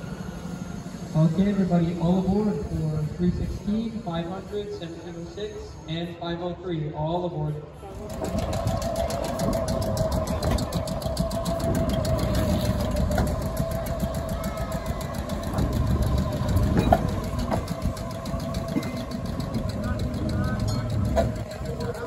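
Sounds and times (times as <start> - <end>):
subway car machinery hum: 0.0 - 22.0.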